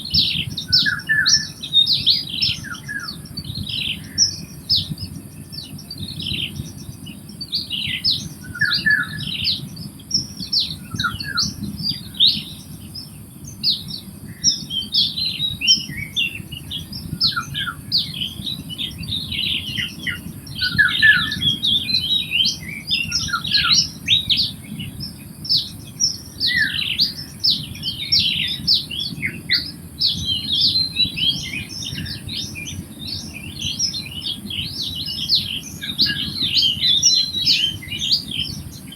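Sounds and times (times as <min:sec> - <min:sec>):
birds chirping and calling: 0:00.0 - 0:38.9.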